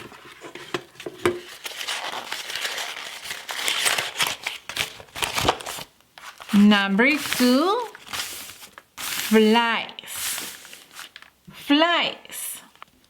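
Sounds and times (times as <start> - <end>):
crinkling rustling handling: 0.0 - 9.6, 10.2 - 11.4.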